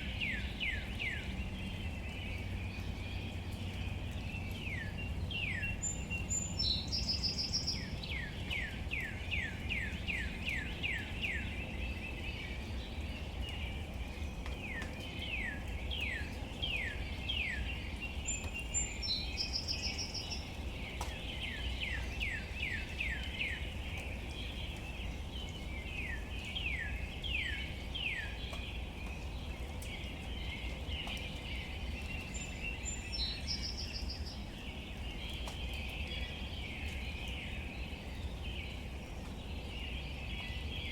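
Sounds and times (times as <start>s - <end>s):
rain falling on leaves: 0.0s - 40.9s
songbird singing whistled notes: 0.0s - 40.9s.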